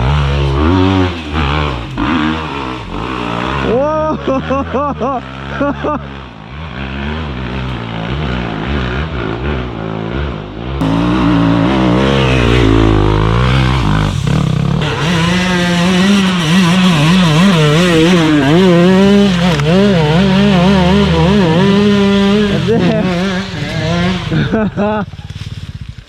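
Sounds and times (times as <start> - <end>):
dirt bike engine revving: 0.0 - 25.1.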